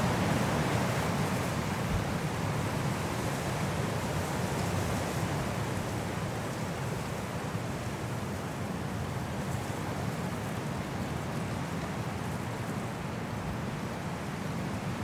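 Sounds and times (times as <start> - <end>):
strong wind through trees: 0.0 - 15.0.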